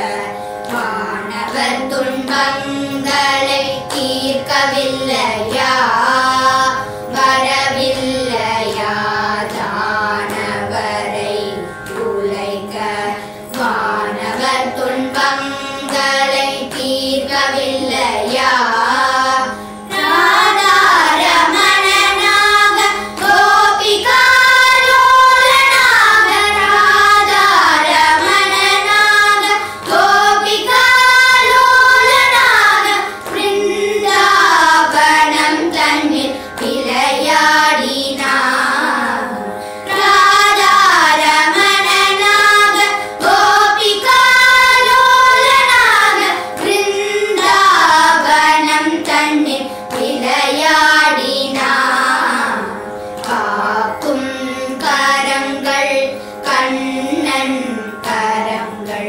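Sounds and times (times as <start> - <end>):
steady drone note: 0.0 - 58.9
girls singing together: 0.0 - 59.0.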